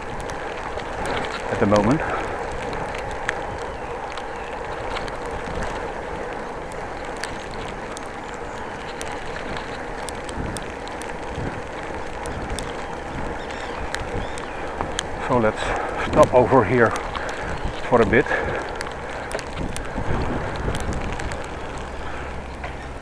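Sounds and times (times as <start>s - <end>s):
small clicks and rattles: 0.0s - 23.0s
tyre and wind noise: 0.0s - 23.0s.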